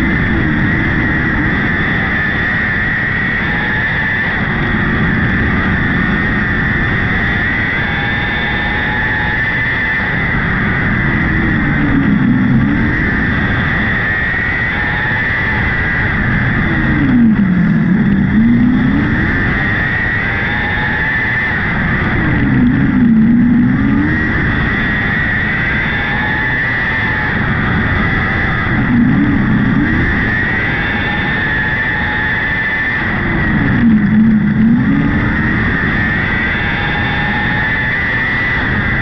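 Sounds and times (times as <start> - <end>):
motorcycle engine revving high: 0.0 - 39.0.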